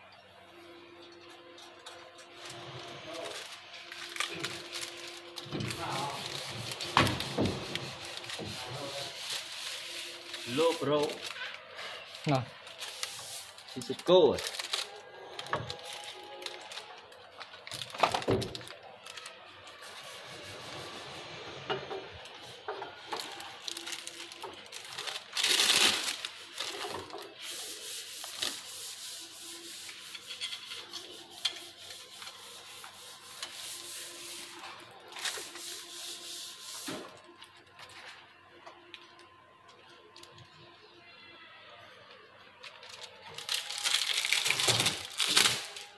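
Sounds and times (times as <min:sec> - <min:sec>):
plastic wrapping rustling: 0:02.4 - 0:20.7, 0:22.4 - 0:29.6, 0:31.8 - 0:39.3, 0:42.2 - 0:45.9.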